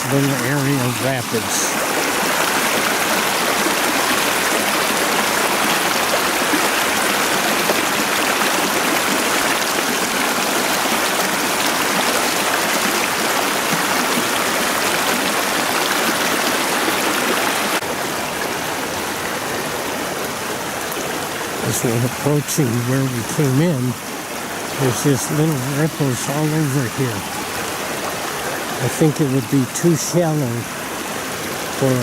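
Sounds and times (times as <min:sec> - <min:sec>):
water rushing over rocks: 0:00.0 - 0:32.0.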